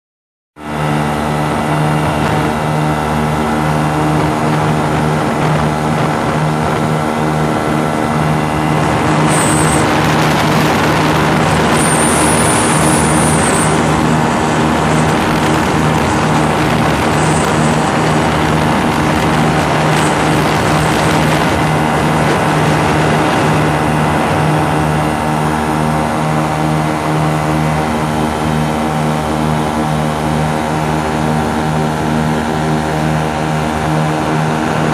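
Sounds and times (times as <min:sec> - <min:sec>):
aircraft engine and propeller drone: 0:00.6 - 0:34.9.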